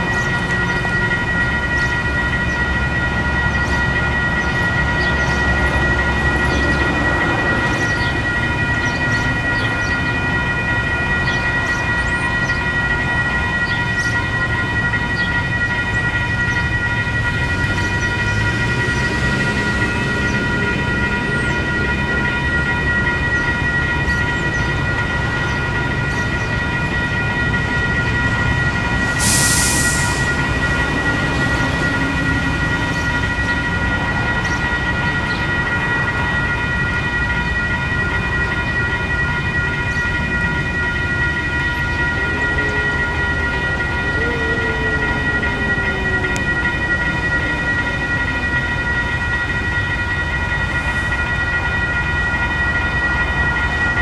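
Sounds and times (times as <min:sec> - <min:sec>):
level crossing alarm tones: 0:00.0 - 0:54.0.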